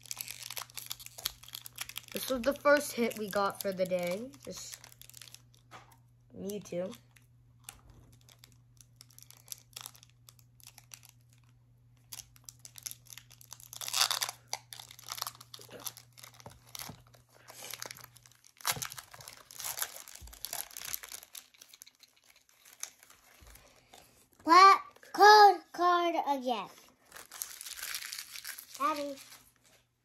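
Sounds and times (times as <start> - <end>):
foil wrapper crinkling and tearing: 0.0 - 24.2, 26.9 - 29.9.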